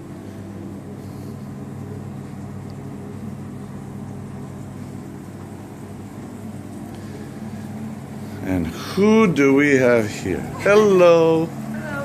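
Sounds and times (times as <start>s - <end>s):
ship machinery droning: 0.0s - 12.0s.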